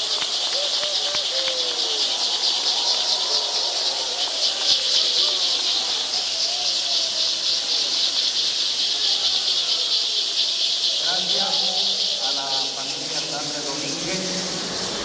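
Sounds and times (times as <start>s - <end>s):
crowd voices: 0.0s - 15.0s
gourd rattles shaking: 0.0s - 15.0s.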